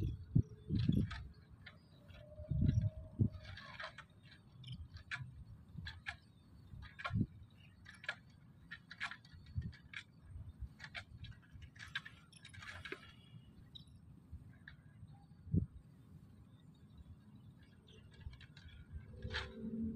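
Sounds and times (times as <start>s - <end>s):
light clicks and ticks: 0.0s - 15.3s, 16.5s - 19.9s.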